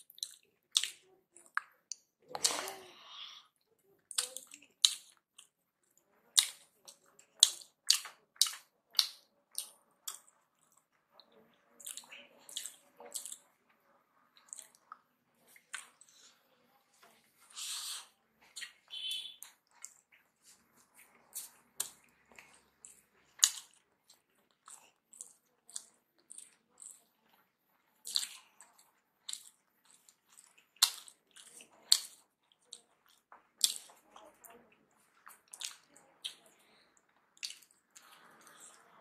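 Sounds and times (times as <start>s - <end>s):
wet chewing and mouth clicks: 0.0s - 2.6s, 4.0s - 13.6s, 14.3s - 16.4s, 17.5s - 27.4s, 28.0s - 38.9s.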